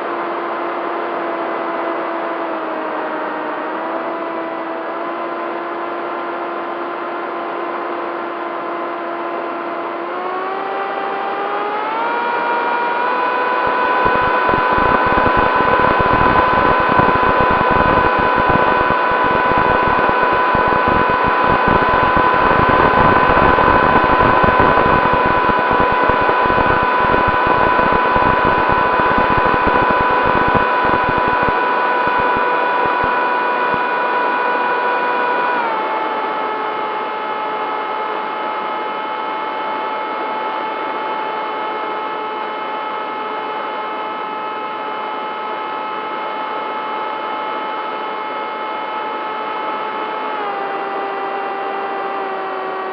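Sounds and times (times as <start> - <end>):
electric motor and propeller whining: 0.0 - 41.7, 49.3 - 52.9.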